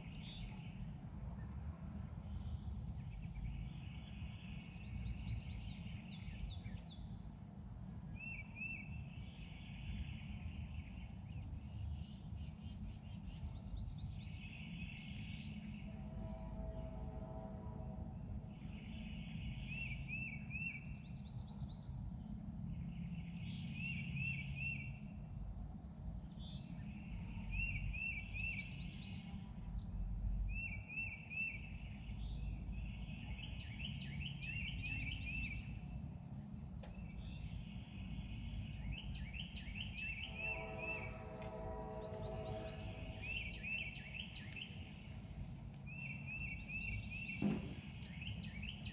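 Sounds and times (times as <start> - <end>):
high-pitched insect drone: 9.4 - 48.9.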